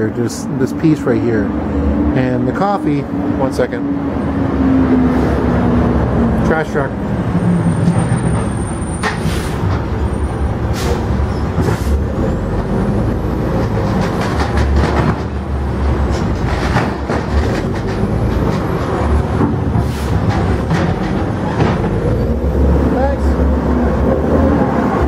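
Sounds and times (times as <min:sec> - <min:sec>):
garbage truck engine rumble: 0:00.0 - 0:25.0.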